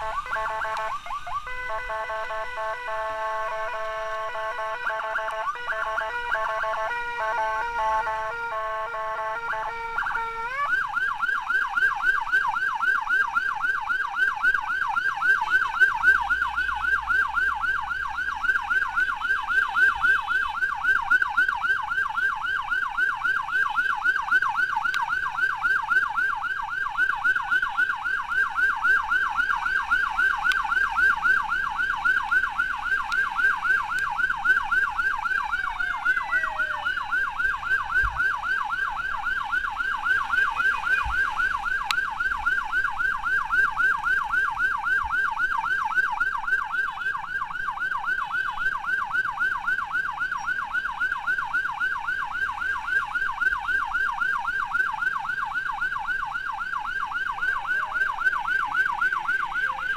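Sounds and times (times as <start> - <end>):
ambulance siren yelping: 0.0 - 59.9.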